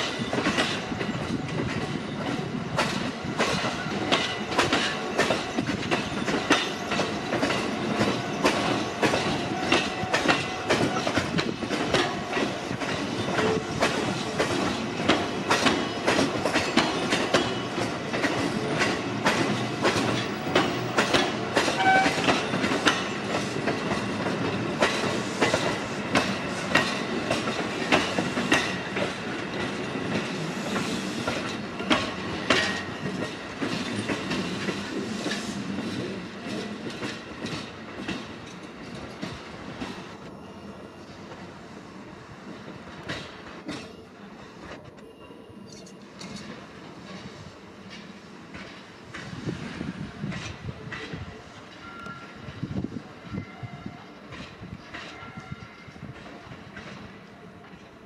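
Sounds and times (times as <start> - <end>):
train cars rolling past: 0.0 - 58.0.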